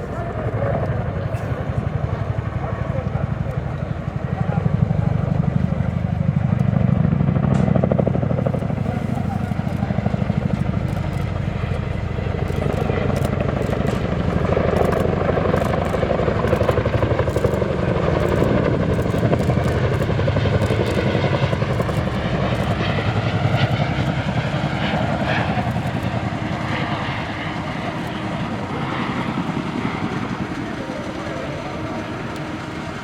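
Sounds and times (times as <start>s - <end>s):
helicopter rotor blades beating: 0.0s - 33.0s.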